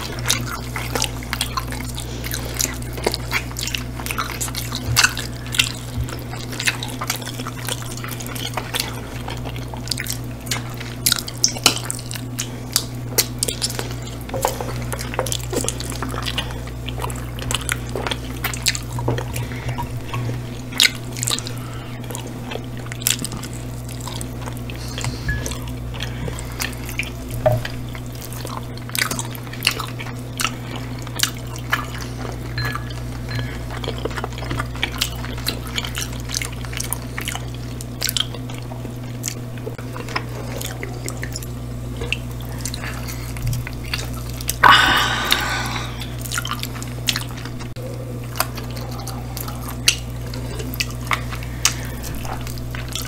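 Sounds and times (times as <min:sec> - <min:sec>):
steady low hum: 0:00.0 - 0:53.0
wet chewing and lip-smacking: 0:00.0 - 0:53.0.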